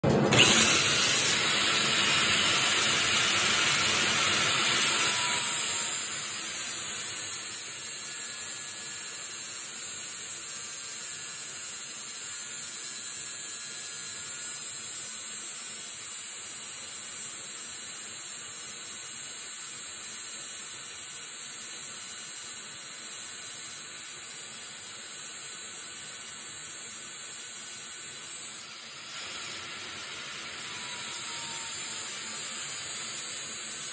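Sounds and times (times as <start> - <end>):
angle grinder grinding metal: 0.0 - 16.8, 20.0 - 33.9.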